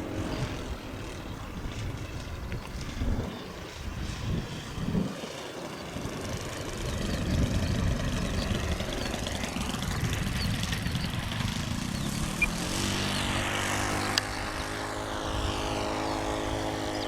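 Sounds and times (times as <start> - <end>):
model aeroplane engine: 0.0 - 17.0
wind rumbling on microphone: 0.0 - 17.0.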